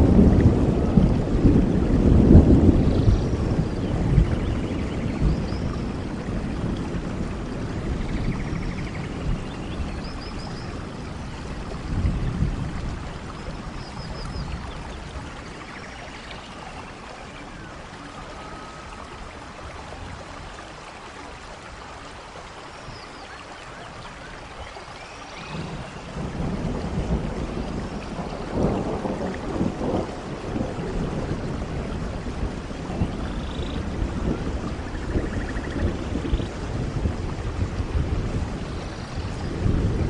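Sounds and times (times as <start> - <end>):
rain on leaves: 0.0 - 40.0.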